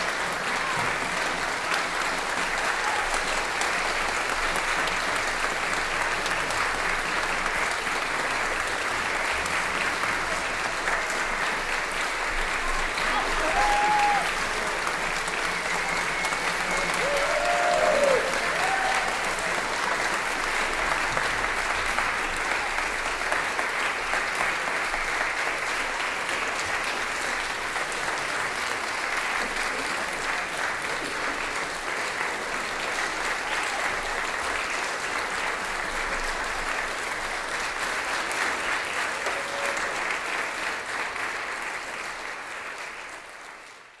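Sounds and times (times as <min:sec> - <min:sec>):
audience applauding: 0:00.0 - 0:44.0.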